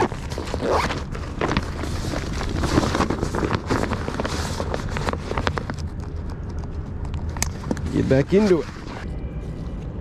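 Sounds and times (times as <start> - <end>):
bag and plastic packet rustling: 0.0 - 9.1.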